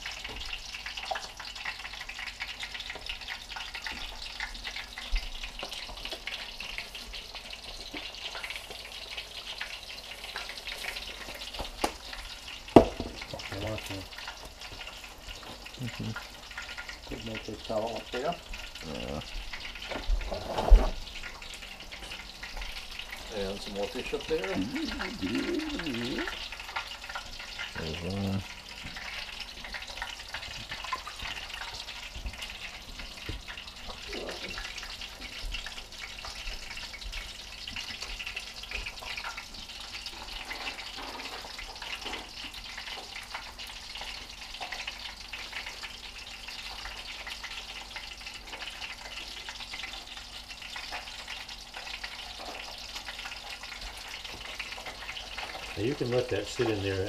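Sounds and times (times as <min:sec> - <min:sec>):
oil sizzling in a pan: 0:00.0 - 0:57.0.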